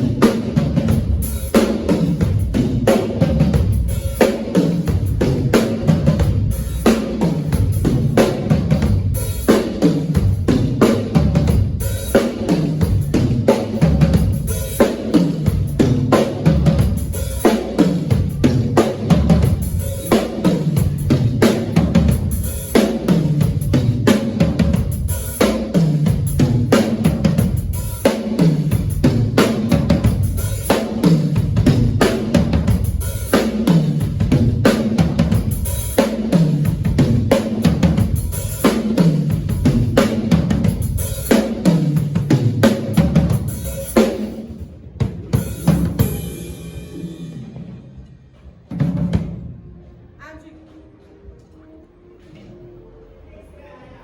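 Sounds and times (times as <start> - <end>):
drum kit played hard: 0.0 - 48.0, 48.7 - 49.5.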